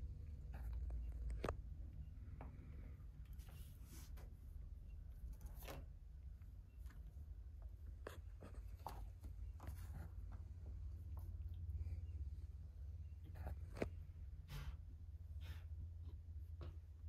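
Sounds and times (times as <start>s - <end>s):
steady low hum: 0.0s - 17.0s
kittens scratching and rustling: 0.1s - 17.0s.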